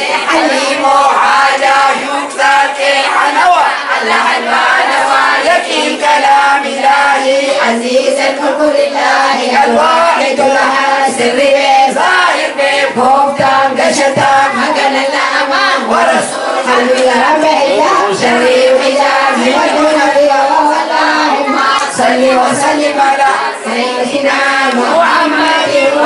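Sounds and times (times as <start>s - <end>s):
group of voices chanting: 0.0s - 26.0s.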